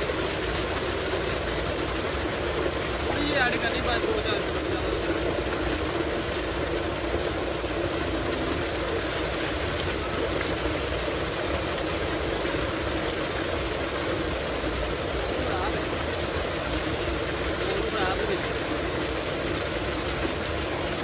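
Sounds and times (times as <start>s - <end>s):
water gushing into tank: 0.0s - 21.0s.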